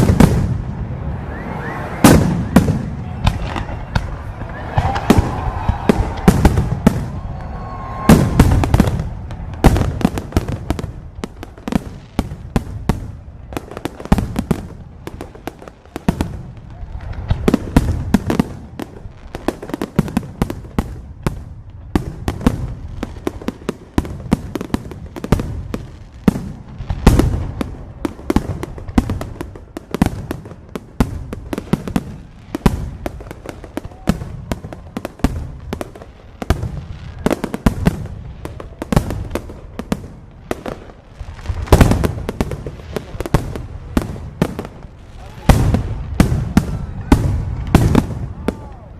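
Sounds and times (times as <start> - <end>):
fireworks bangs and crackling: 0.0 - 48.9
heavy firework booms: 0.0 - 48.9.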